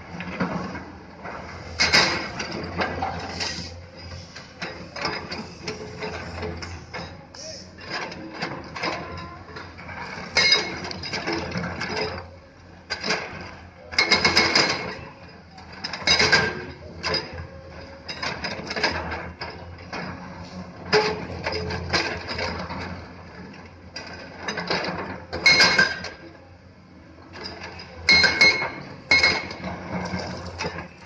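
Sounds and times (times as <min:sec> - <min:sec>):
diesel engines running: 0:00.0 - 0:25.4
excavator bucket clanking on stone: 0:01.8 - 0:07.2, 0:07.8 - 0:13.4, 0:14.0 - 0:20.2, 0:20.8 - 0:26.2, 0:27.2 - 0:31.0.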